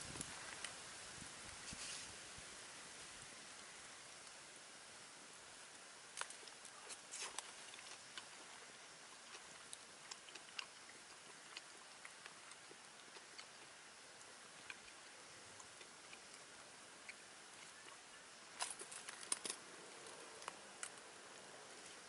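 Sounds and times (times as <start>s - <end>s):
faint fire hiss: 0.0s - 22.0s.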